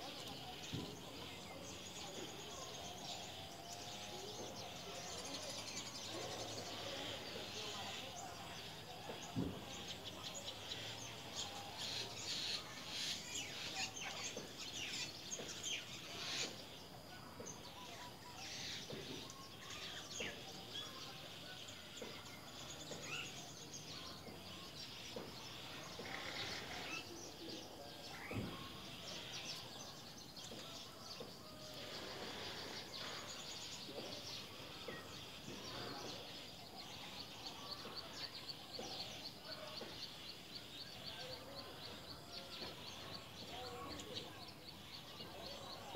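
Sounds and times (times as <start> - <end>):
faint bird chirps: 0.0 - 45.9
outdoor background hiss: 0.0 - 45.9.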